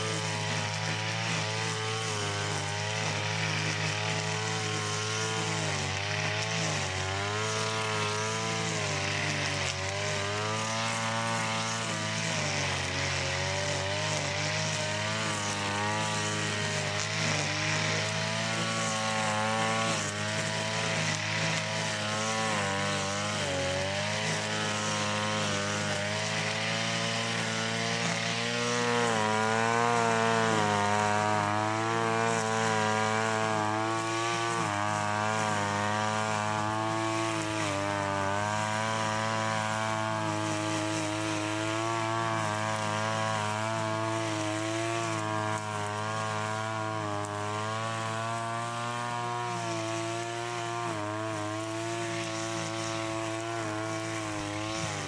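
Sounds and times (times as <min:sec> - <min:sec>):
brushcutter engine revving: 0:00.0 - 0:55.0.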